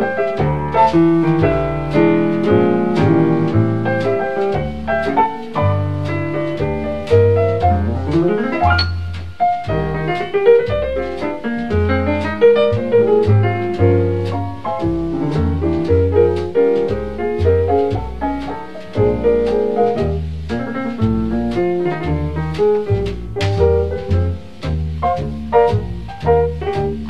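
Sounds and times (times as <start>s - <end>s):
bass line: 0.0s - 27.0s
jazz piano: 0.0s - 27.0s
light drums: 0.0s - 27.0s.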